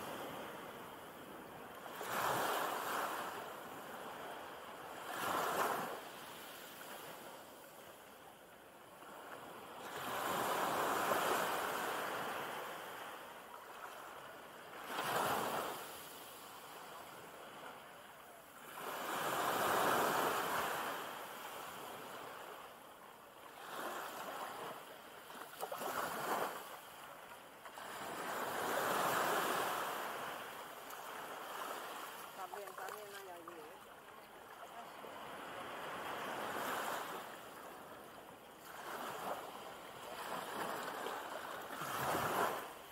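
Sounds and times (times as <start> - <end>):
small waves washing over sand: 0.0 - 42.9.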